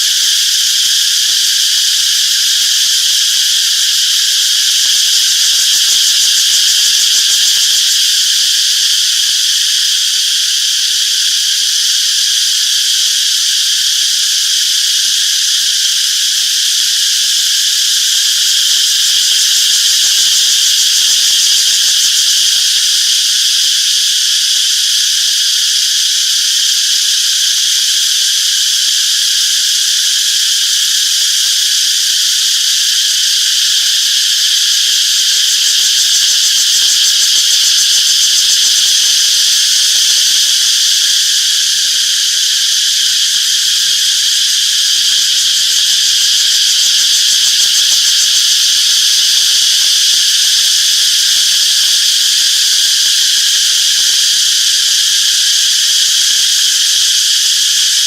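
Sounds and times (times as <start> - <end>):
cicadas buzzing in chorus: 0.0 - 58.0.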